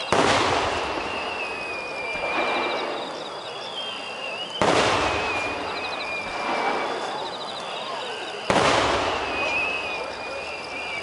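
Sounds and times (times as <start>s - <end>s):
firework shells booming: 0.0s - 3.7s, 4.4s - 7.4s, 8.3s - 11.0s
thin high whistle: 0.0s - 11.0s.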